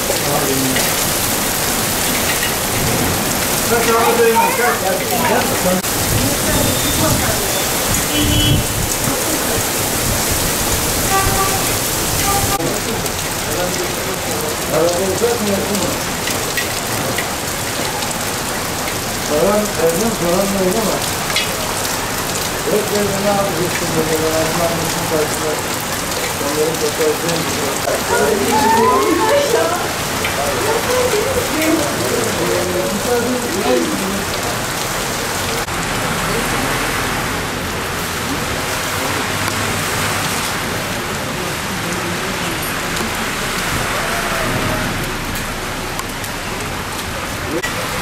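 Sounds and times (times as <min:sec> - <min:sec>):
car tyres swishing through water: 0:00.0 - 0:48.0
heavy rain on street: 0:00.0 - 0:48.0.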